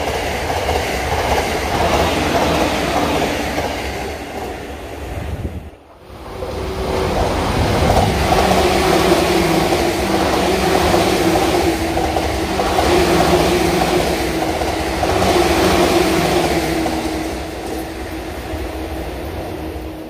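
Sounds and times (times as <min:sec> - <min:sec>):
train humming tone: 0:00.0 - 0:20.0
train wheels rushing on rail: 0:00.0 - 0:20.0.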